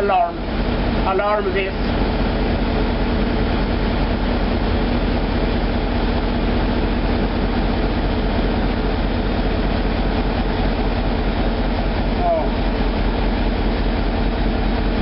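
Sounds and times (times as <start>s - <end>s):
marine diesel engine droning: 0.0s - 15.0s.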